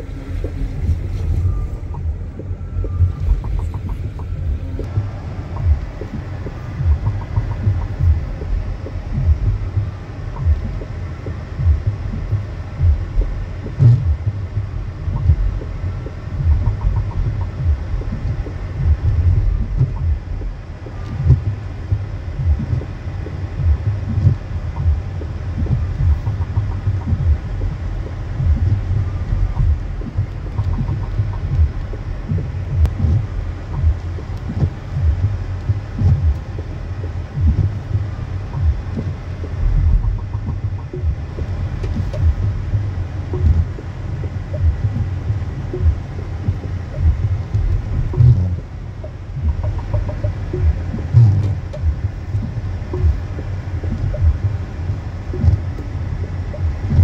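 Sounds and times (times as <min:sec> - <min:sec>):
road and engine noise: 0:00.0 - 0:57.0
throbbing thumps: 0:00.0 - 0:57.0.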